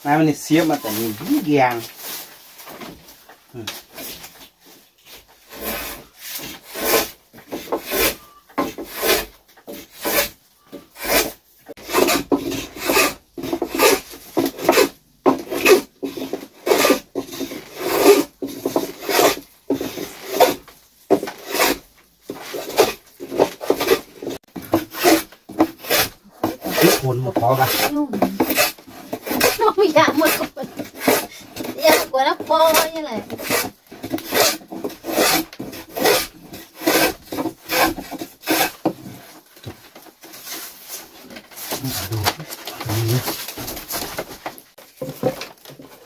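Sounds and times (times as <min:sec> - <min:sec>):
hand saw cutting wood: 0:00.5 - 0:02.9, 0:05.1 - 0:46.0.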